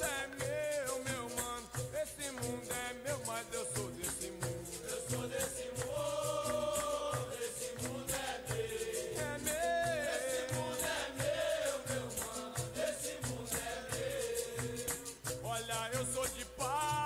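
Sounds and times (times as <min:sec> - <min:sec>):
people singing: 0:00.0 - 0:01.8, 0:02.9 - 0:17.0
berimbau: 0:00.0 - 0:17.0
shaker rhythmic shake: 0:00.0 - 0:17.0.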